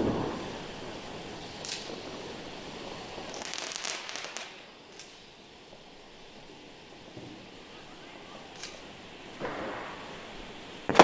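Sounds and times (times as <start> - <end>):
fireworks crackling: 0.0 - 11.0
steady background hiss: 0.0 - 11.0.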